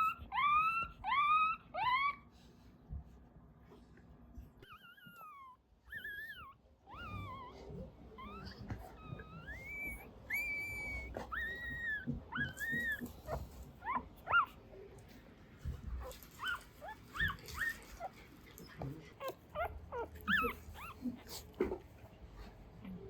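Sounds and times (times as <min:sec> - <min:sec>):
puppies whimpering and squeaking: 0:00.0 - 0:02.3, 0:04.6 - 0:14.9, 0:15.6 - 0:23.0.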